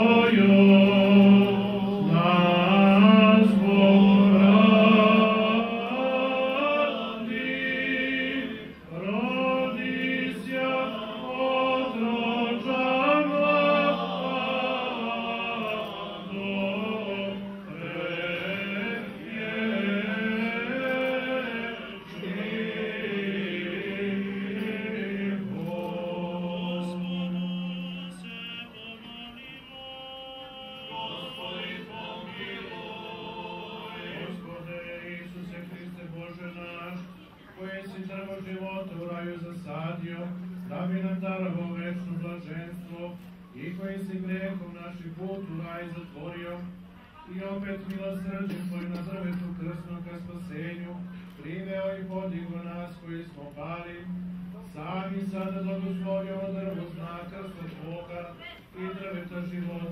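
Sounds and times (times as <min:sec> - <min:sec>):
men chanting a hymn: 0:00.0 - 0:59.9.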